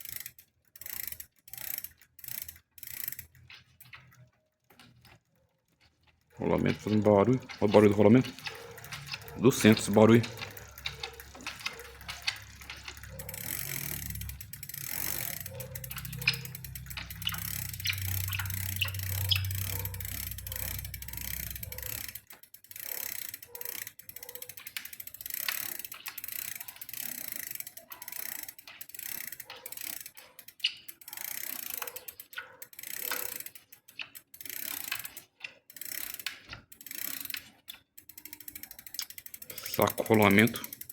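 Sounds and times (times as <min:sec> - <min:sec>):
bicycle drivetrain clicking: 0:00.0 - 0:40.9.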